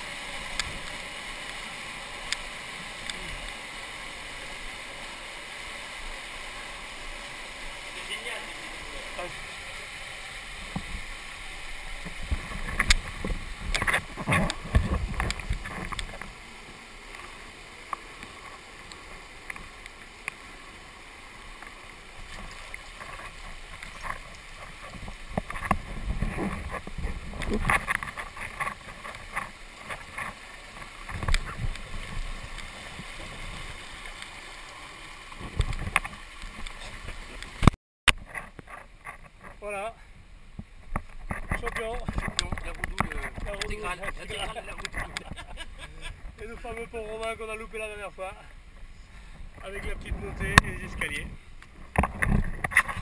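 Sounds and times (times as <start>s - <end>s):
water splashing and sloshing: 0.0s - 53.0s.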